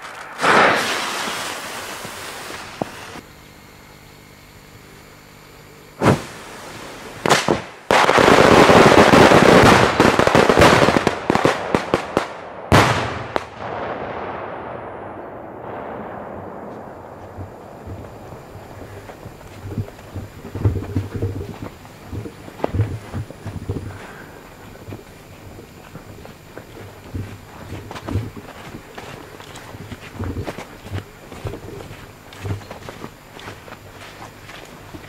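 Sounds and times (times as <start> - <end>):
fireworks bangs and cracks: 0.0 - 3.2, 6.0 - 30.9
fireworks crackle: 0.0 - 3.2, 6.0 - 35.0.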